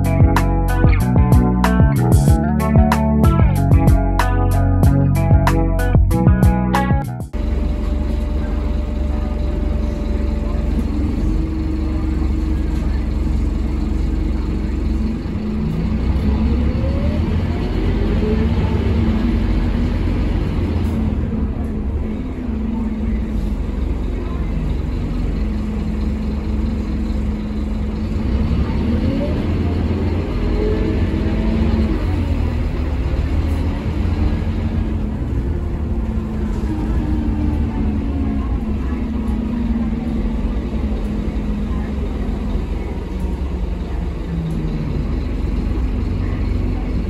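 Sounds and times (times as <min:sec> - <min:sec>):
bus diesel engine rumble: 0:00.0 - 0:47.0
engine whine accelerating: 0:00.0 - 0:47.0.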